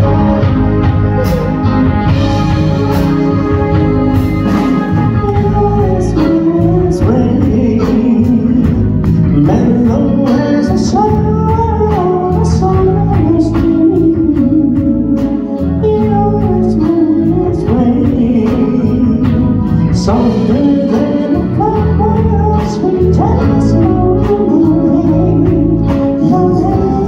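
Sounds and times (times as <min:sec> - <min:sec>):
live band playing soul ballad: 0:00.0 - 0:27.0
man singing: 0:04.4 - 0:27.0.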